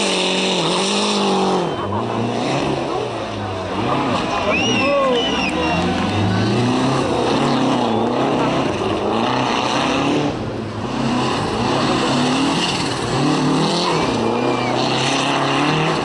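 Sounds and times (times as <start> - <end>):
rally car engines revving: 0.0 - 16.0.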